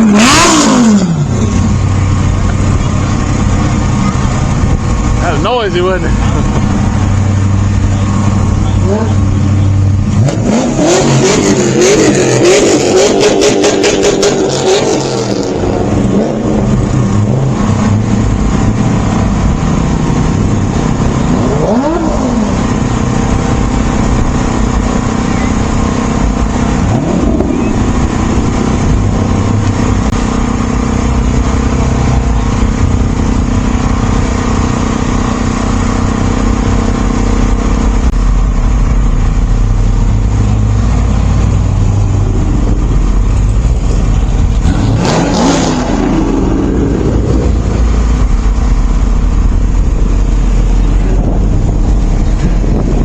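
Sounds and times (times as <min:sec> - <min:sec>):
engine drone: 0:00.0 - 0:53.0
loud engine revving: 0:00.0 - 0:53.0.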